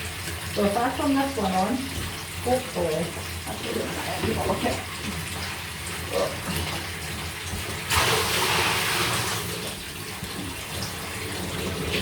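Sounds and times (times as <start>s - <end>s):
tap water running into bath: 0.0s - 12.0s.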